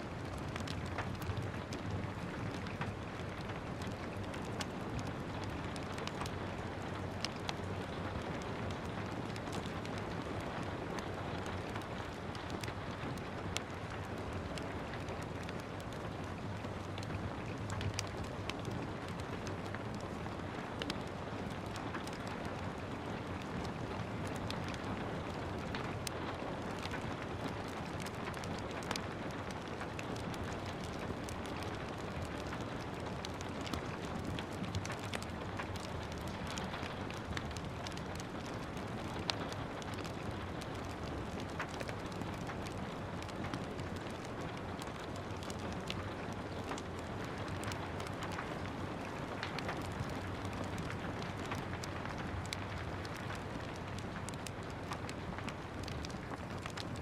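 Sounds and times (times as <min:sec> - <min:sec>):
steady rain: 0:00.0 - 0:57.0
wood fire crackling: 0:00.0 - 0:57.0.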